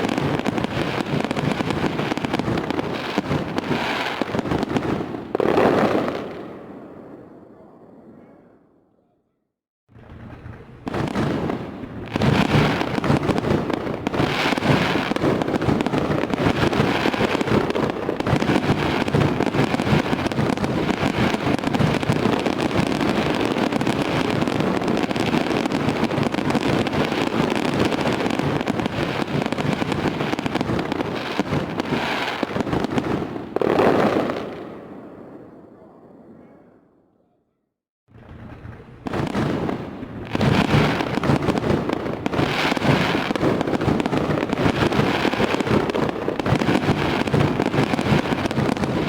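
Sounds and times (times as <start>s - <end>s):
fireworks bangs and crackling: 0.0s - 8.3s, 9.9s - 36.4s, 38.1s - 49.0s.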